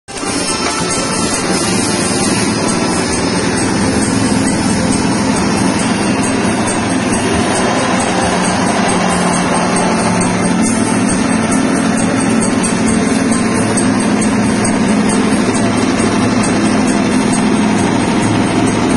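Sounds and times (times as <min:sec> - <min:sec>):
machine dehulling beans: 0:00.1 - 0:18.9
small petrol engine running: 0:00.1 - 0:18.9.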